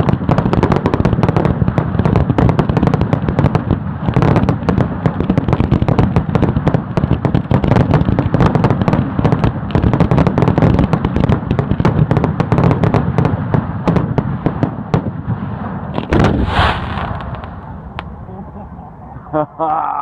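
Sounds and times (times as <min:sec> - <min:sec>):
fireworks barrage: 0:00.0 - 0:19.7.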